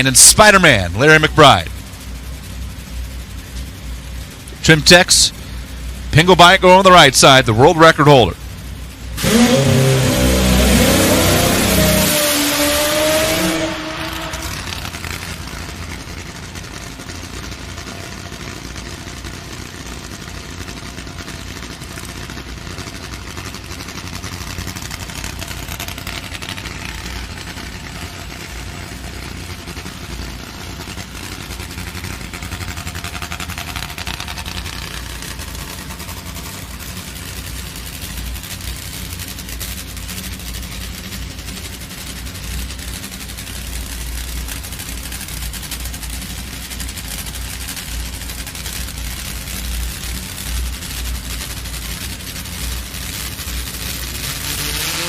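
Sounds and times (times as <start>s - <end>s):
motorcycle engines rumbling: 0.0s - 55.0s
motorcycle engine revving: 8.4s - 55.0s.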